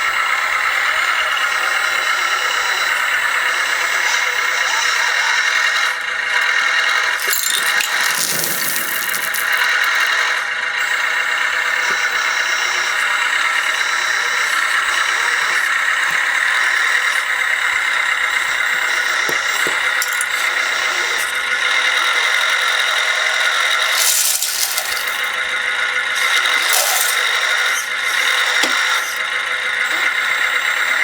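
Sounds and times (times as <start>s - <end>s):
electric motor whining: 0.2s - 31.0s.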